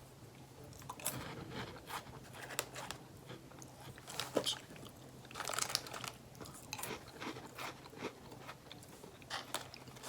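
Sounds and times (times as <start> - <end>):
person chewing crunchy crackers: 0.7 - 10.0.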